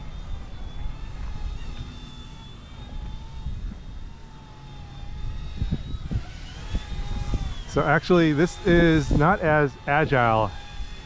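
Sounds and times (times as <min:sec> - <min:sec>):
toy helicopter rotor whining: 0:00.0 - 0:11.0
wind buffeting microphone: 0:00.0 - 0:11.0.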